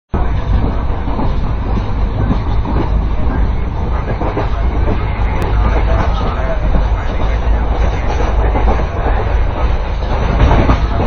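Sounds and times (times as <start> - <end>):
train wheels rumbling on track: 0.1 - 11.0.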